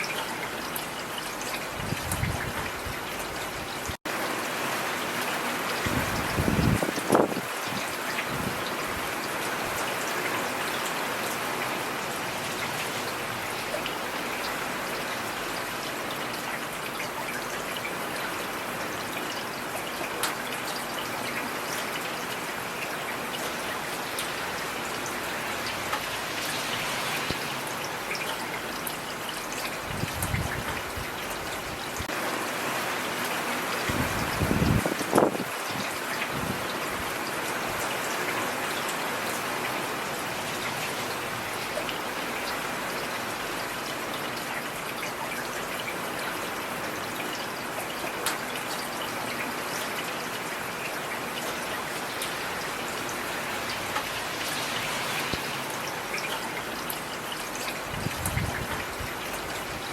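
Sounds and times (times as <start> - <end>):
rain falling on street: 0.0 - 59.9
trickling runoff: 0.0 - 59.9.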